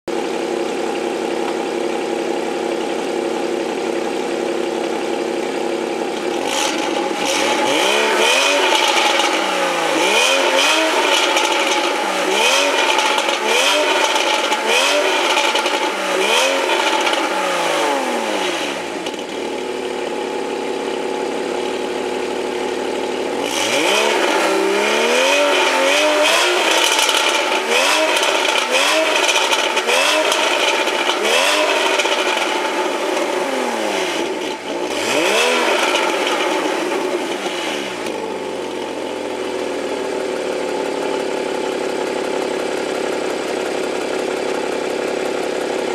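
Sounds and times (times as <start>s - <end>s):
car engine revving and idling: 0.1s - 45.9s.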